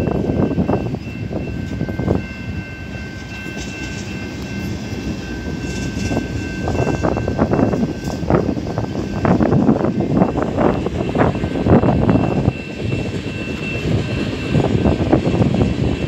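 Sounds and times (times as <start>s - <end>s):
freight train rumbling past: 0.0s - 16.0s
train wheels clacking: 0.0s - 16.0s.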